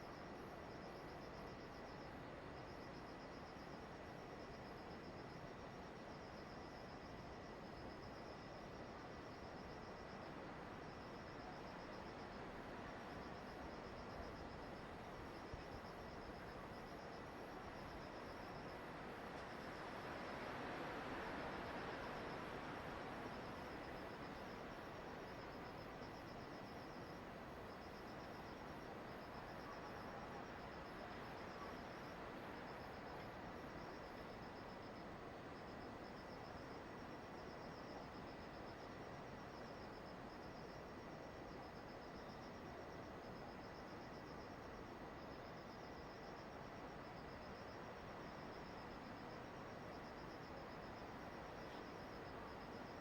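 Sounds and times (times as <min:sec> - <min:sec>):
crickets chirping: 0:00.0 - 0:53.0
steady background hiss: 0:00.0 - 0:53.0.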